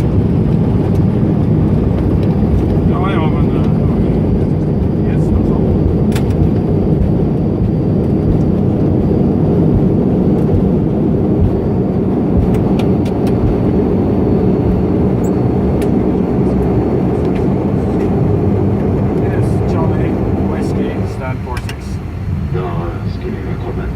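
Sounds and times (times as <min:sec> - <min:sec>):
aircraft engines rumbling: 0:00.0 - 0:23.9.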